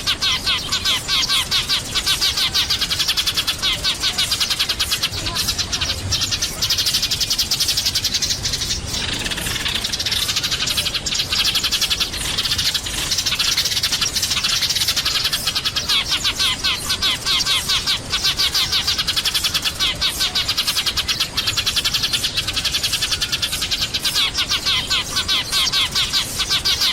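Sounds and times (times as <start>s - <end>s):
sparrows chirping: 0.0s - 26.9s.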